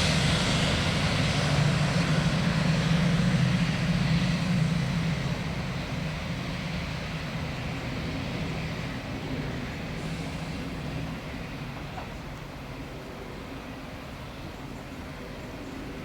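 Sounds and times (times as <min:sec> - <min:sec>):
passing train drone: 0:00.0 - 0:16.0.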